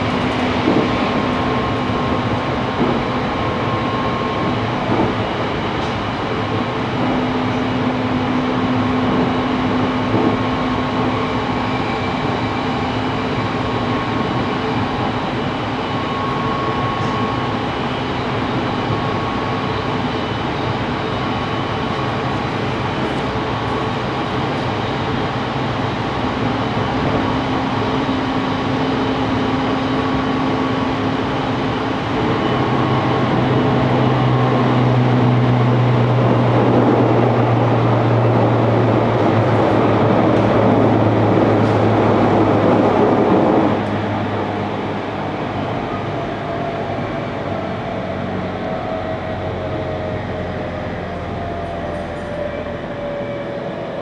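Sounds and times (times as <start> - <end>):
train wheel-and-rail noise: 0.0 - 54.0.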